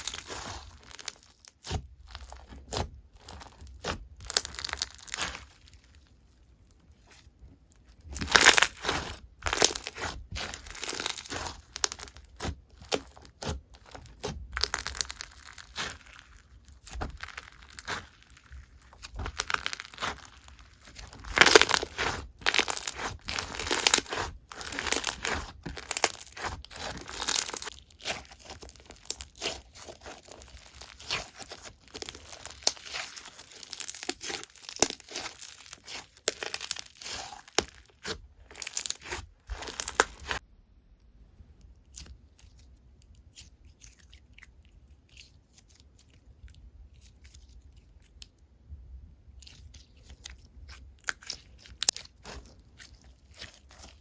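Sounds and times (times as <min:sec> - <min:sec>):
crackling and crunching: 0:00.0 - 0:40.4, 0:41.6 - 0:48.4, 0:49.3 - 0:54.0
hands squishing slime: 0:00.0 - 0:40.4, 0:41.7 - 0:48.4, 0:49.3 - 0:54.0.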